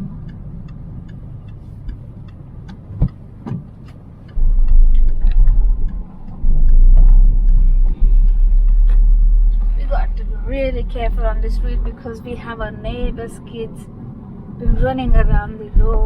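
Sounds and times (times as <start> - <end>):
deep low rumble: 0.0 - 3.7, 4.3 - 16.0
car engine and road rumble: 0.0 - 16.0.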